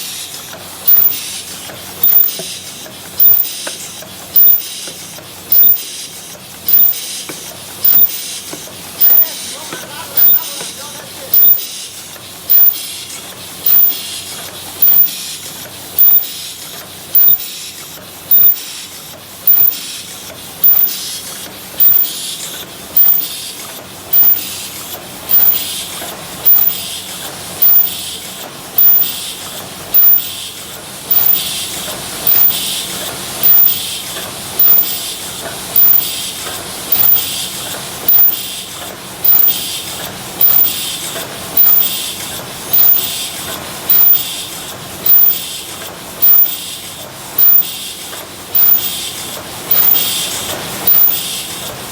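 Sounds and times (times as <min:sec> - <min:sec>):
machine mechanical beat: 0:00.0 - 0:11.8, 0:12.4 - 0:51.9
steady machine hiss: 0:00.0 - 0:16.6, 0:17.2 - 0:51.8.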